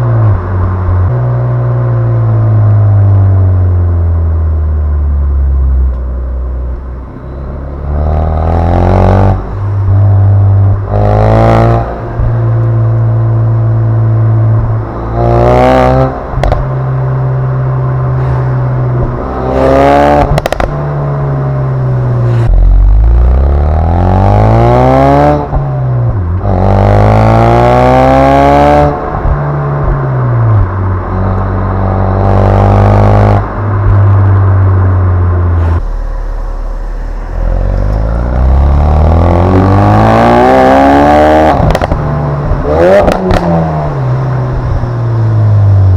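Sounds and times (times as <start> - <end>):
car exhaust revving and idling: 0.0 - 45.9.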